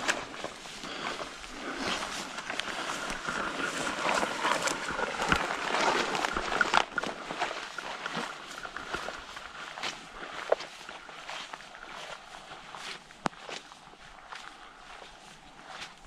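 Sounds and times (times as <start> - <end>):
footsteps on forest ground: 0.0 - 16.0.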